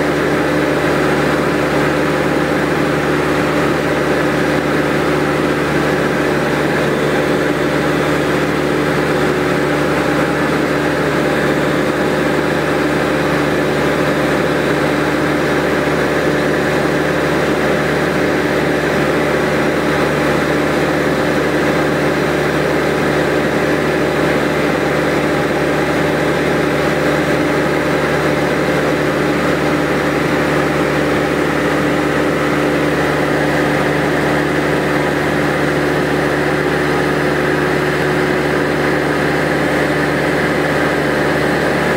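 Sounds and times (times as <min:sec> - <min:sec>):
light aircraft engine drone: 0:00.0 - 0:41.9.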